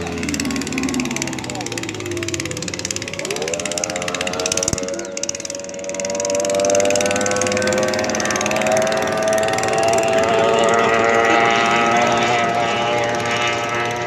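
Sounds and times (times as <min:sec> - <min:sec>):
racing powerboat engine whine: 0:00.0 - 0:14.0.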